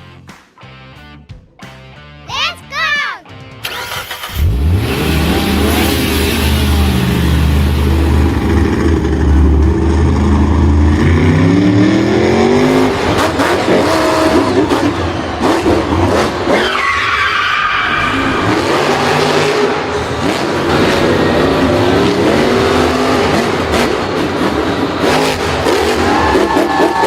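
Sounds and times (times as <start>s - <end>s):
vehicle engine revving: 3.6s - 17.0s, 17.8s - 27.0s
tyres skidding: 3.6s - 27.0s.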